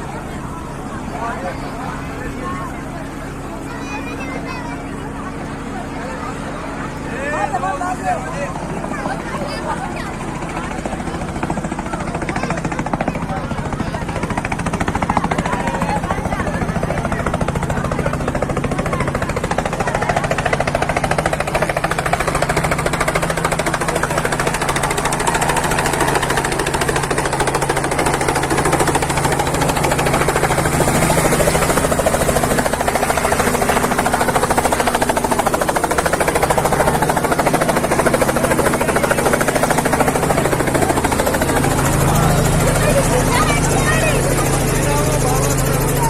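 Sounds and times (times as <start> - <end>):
helicopter engine drone: 0.0 - 46.0
helicopter rotor chop: 0.0 - 46.0.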